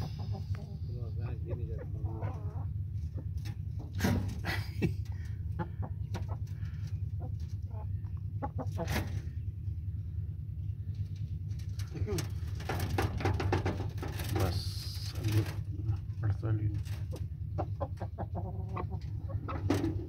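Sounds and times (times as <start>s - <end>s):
chickens clucking: 0.0s - 20.0s
steady low hum: 0.0s - 20.0s.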